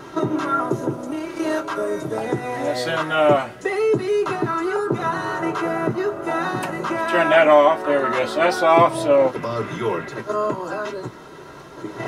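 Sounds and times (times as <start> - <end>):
song with singing over beat: 0.0 - 12.0.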